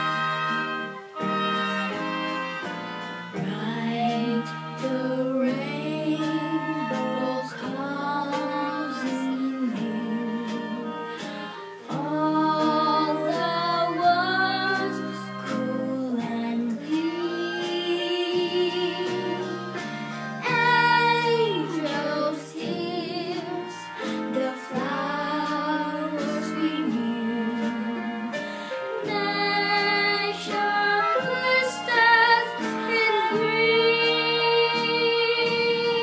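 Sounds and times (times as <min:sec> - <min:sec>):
instrumental accompaniment: 0:00.0 - 0:36.0
girl singing with vibrato: 0:03.3 - 0:36.0.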